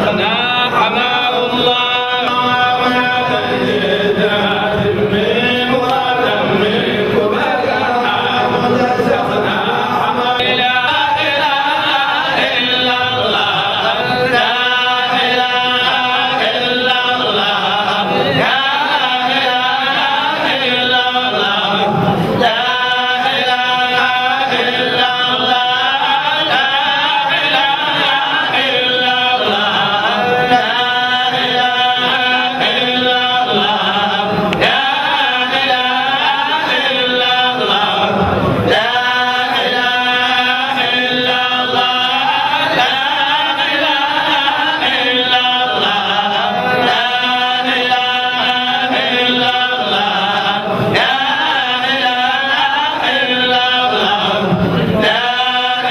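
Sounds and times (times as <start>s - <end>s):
men chanting through microphones: 0.0s - 55.9s.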